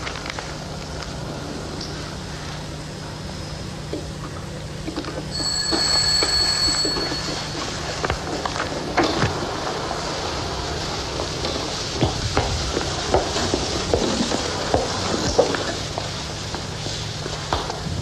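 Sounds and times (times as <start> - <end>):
television soundtrack hiss and crackle: 0.0 - 18.0.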